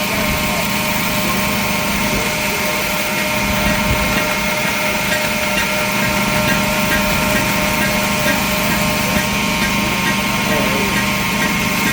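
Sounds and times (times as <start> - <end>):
machinery motor humming: 0.0 - 11.9.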